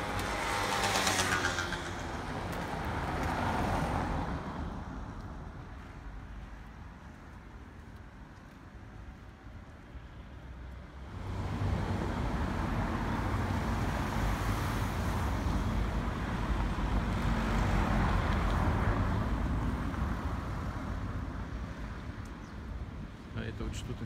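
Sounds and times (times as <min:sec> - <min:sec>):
traffic driving past: 0:00.0 - 0:24.0.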